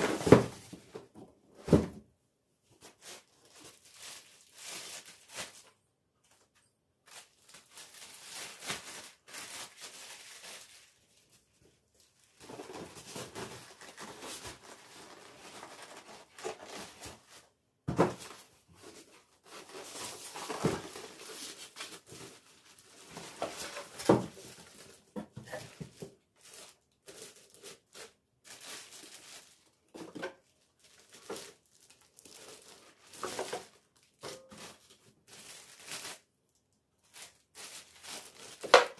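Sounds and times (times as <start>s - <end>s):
paper or plastic crinkling: 2.8s - 36.4s, 37.0s - 38.9s.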